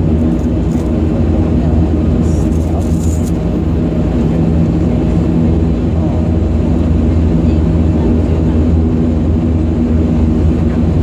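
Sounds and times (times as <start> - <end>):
turboprop engine drone: 0.0 - 11.0.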